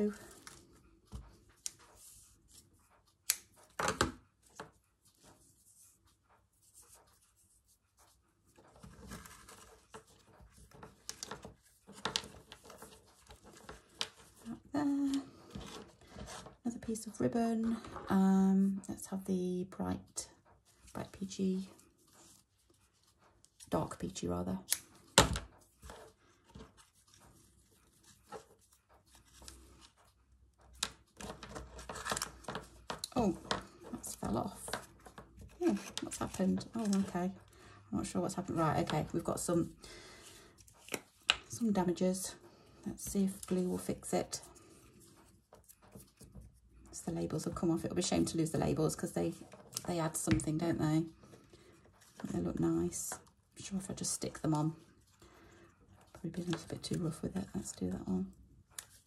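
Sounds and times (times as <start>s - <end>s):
ribbon rustling: 0.0s - 18.2s, 20.4s - 59.0s.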